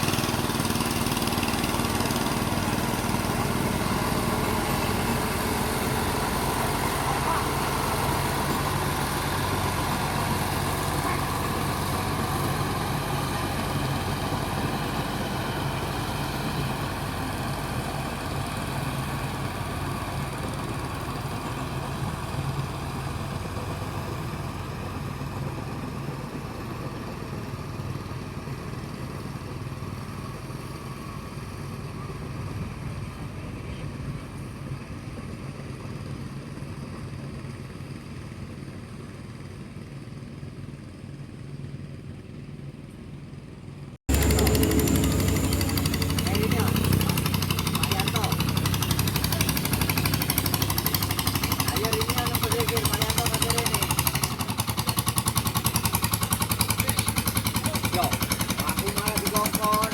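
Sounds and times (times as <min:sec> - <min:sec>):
boat engine running: 0:00.0 - 0:37.4, 0:44.1 - 0:59.9.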